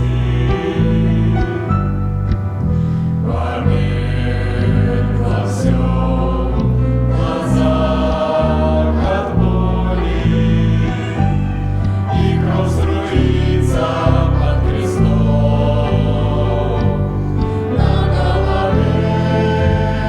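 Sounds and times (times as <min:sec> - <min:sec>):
choir singing with accompaniment: 0:00.0 - 0:20.0.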